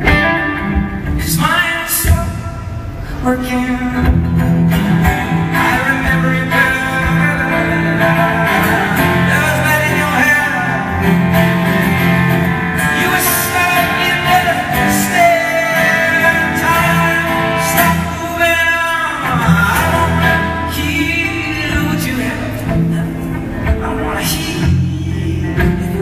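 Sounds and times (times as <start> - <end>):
acoustic guitar strumming: 0.0 - 26.0
man singing: 1.0 - 26.0.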